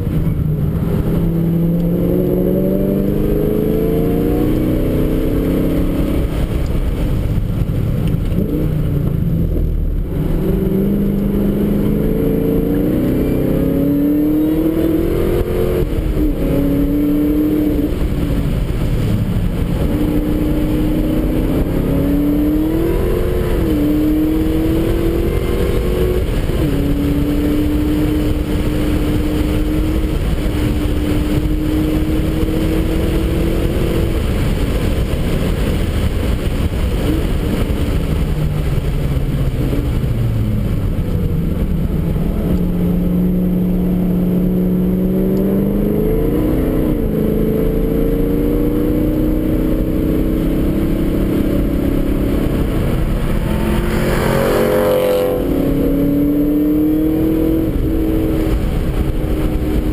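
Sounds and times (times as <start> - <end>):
car engine revving: 0.0 - 59.9
road and tyre noise: 0.0 - 59.9.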